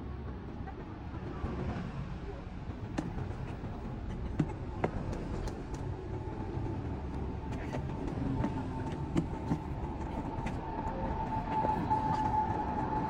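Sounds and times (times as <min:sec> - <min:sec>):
highway traffic rumble: 0:00.0 - 0:13.0.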